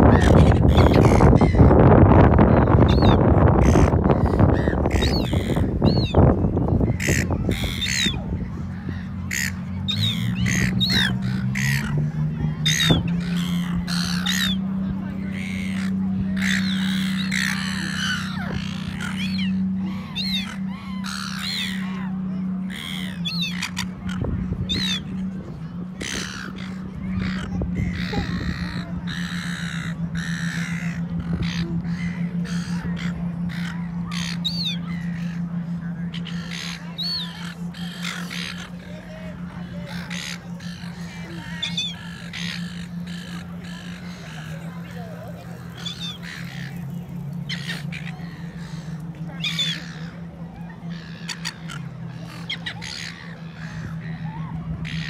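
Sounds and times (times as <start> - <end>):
birds giving harsh calls: 0.0 - 55.0
low steady hum: 0.0 - 55.0.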